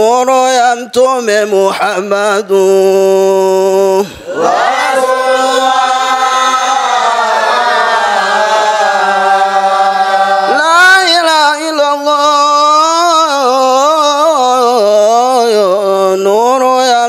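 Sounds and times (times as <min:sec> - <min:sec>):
men chanting in unison: 0:01.5 - 0:16.8.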